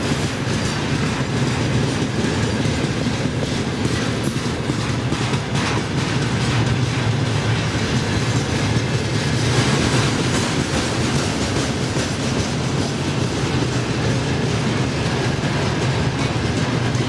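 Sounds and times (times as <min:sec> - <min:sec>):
freight train rumbling past: 0:00.0 - 0:17.0
wheels clicking over rail joints: 0:00.0 - 0:17.0.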